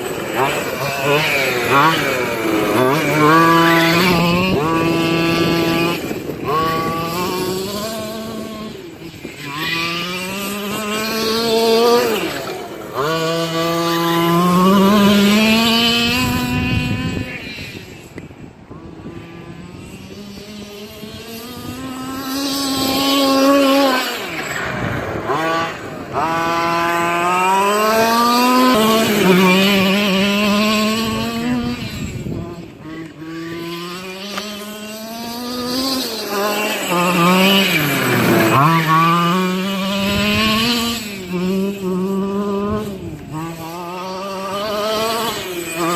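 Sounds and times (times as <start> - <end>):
rc truck engine revving: 0.0 - 45.9.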